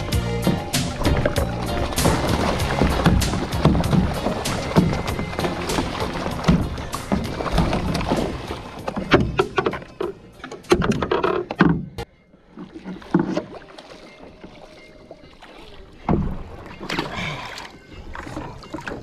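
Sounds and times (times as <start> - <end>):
water splashing: 0.0 - 19.0.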